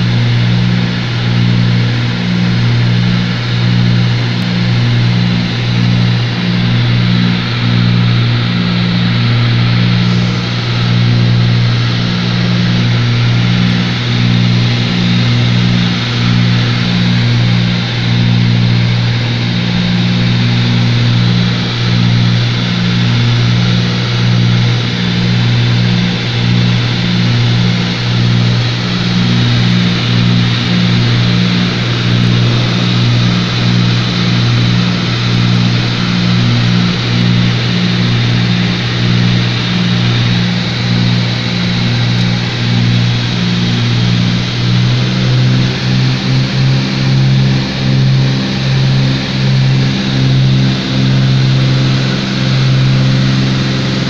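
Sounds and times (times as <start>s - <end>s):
aircraft engines droning: 0.0s - 54.0s
cabin wind noise: 0.0s - 54.0s.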